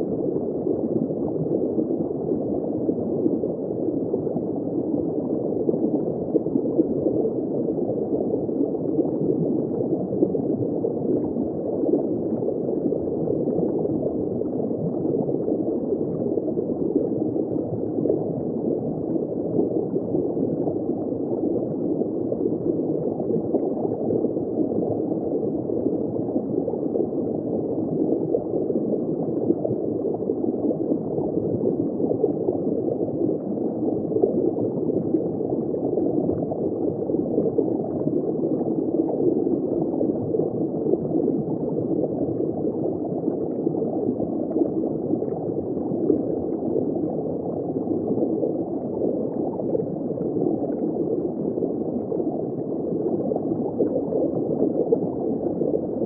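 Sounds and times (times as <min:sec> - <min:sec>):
muffled underwater bubbling: 0:00.0 - 0:56.0.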